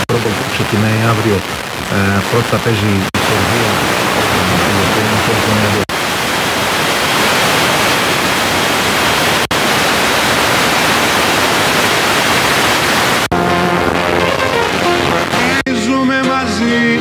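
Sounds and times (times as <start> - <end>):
radio static hiss: 0.0 - 15.7.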